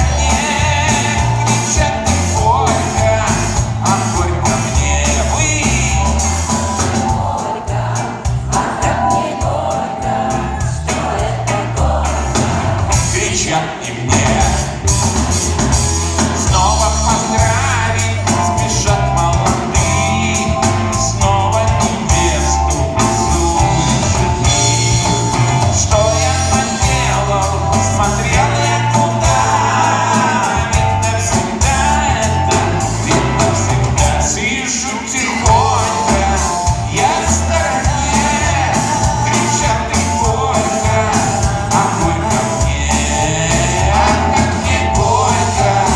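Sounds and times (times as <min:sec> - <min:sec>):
song with beat and bass: 0:00.0 - 0:45.9.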